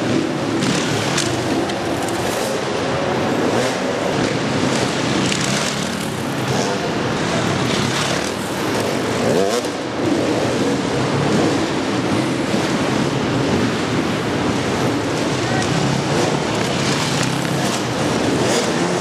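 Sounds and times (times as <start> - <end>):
motorcycle engines revving indoors: 0.0 - 19.0.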